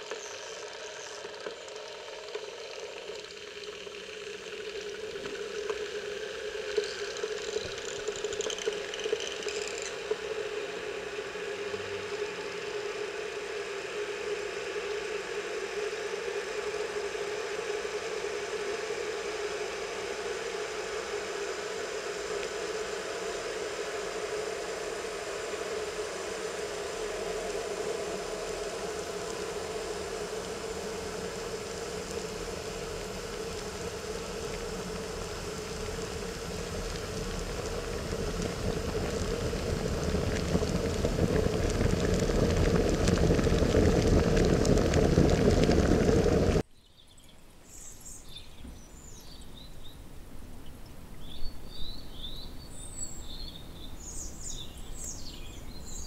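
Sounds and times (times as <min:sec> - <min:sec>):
steady mechanical hum: 0:00.0 - 0:46.7.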